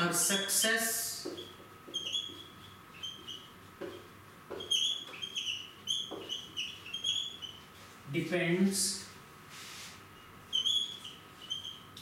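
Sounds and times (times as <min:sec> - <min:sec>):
marker squeaking on a whiteboard: 0:00.0 - 0:08.0, 0:10.0 - 0:12.0.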